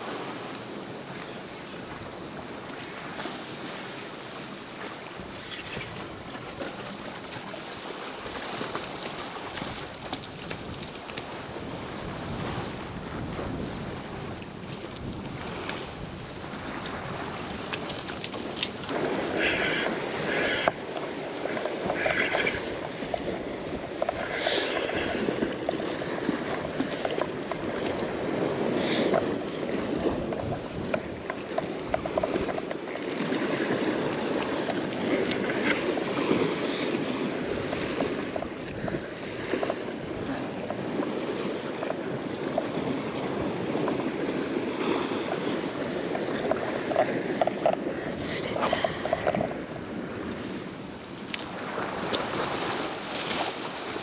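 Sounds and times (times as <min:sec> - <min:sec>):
sea waves washing: 0:00.0 - 0:22.3, 0:32.2 - 0:54.0
wind on microphone: 0:00.0 - 0:54.0.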